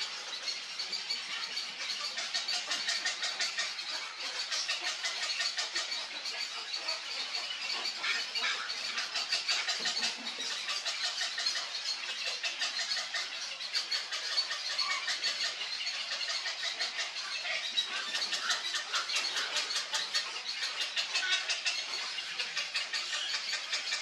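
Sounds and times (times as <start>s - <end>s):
birds ticking chatter: 0.0s - 24.0s.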